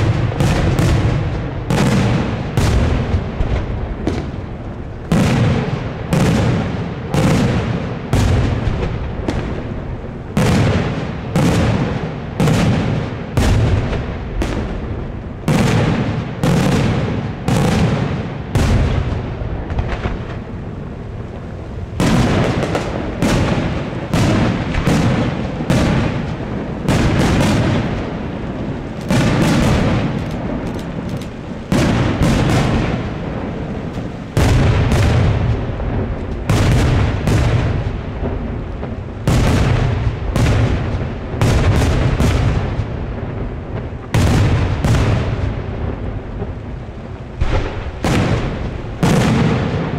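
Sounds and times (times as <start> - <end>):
fireworks bursting with echo: 0.0 - 49.9.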